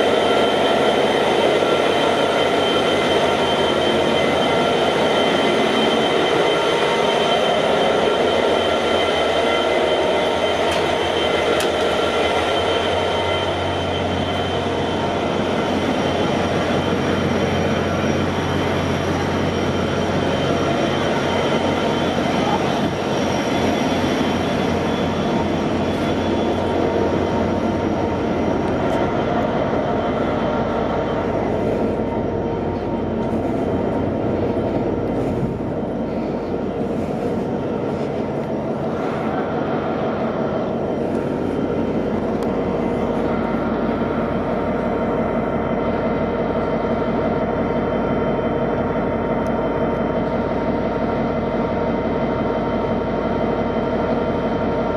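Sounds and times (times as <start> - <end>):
diesel engines rumbling: 0.0 - 54.9
high engine whine: 0.0 - 54.9.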